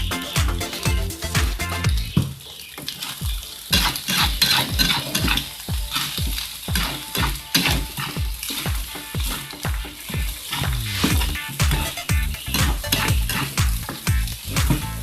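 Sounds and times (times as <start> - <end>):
oil sizzling: 1.9 - 15.0.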